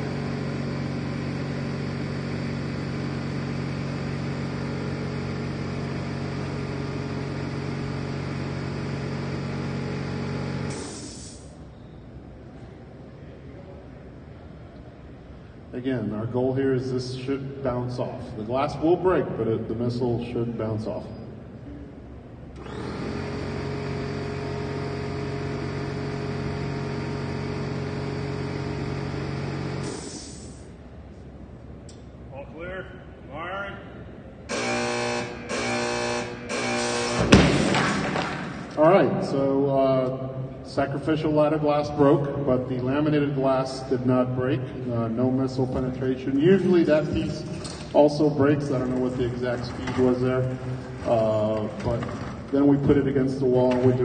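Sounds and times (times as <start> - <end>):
air compressor humming: 0.0 - 12.3, 14.4 - 54.0.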